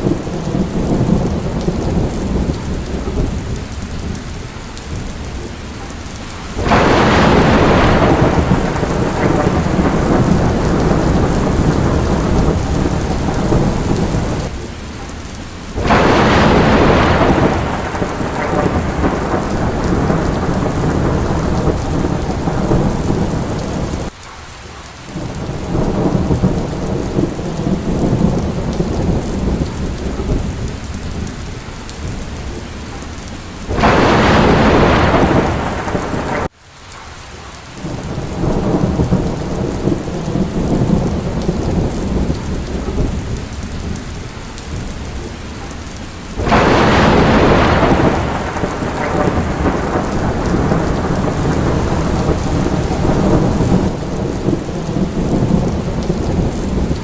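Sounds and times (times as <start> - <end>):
thunder rumbling: 0.0 - 24.2, 25.1 - 36.5, 37.8 - 57.0
rain falling: 0.0 - 57.0.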